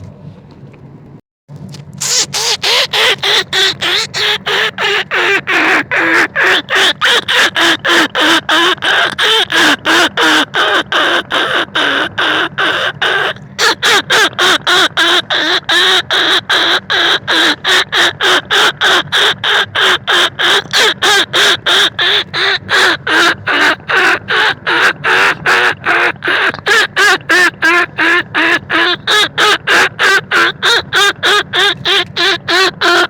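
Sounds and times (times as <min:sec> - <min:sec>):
harsh squealing calls: 0:02.0 - 0:33.0.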